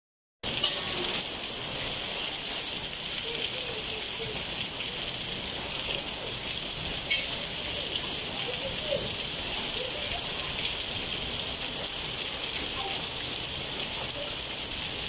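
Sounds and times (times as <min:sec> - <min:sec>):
heavy rain on concrete rooftop: 0:00.4 - 0:15.0.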